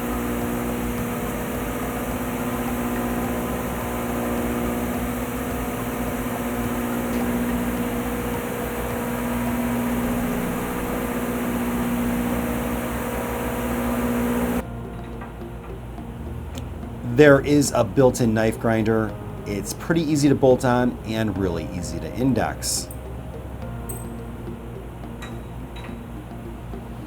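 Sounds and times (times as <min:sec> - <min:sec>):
jointer motor humming: 0:00.0 - 0:27.0.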